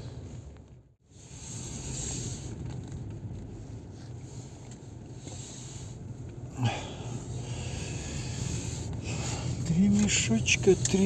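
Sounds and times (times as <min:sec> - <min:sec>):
van engine drone: 0:00.0 - 0:11.0.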